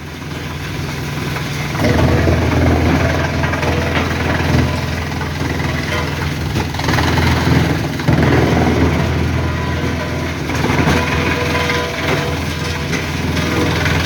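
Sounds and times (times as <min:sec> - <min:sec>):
large engine drone: 0:00.0 - 0:14.0.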